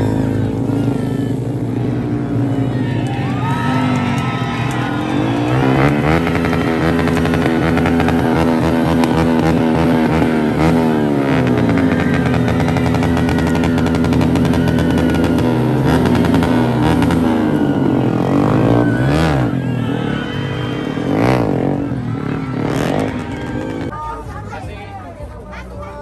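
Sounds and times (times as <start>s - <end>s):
racing motorcycles passing by: 0.0s - 24.5s.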